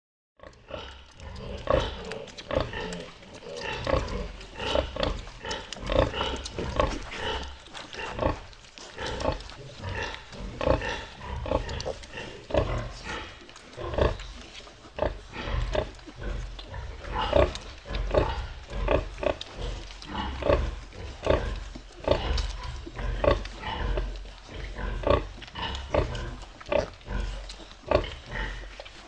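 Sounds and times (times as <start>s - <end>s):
pigs grunting: 0.4s - 29.0s.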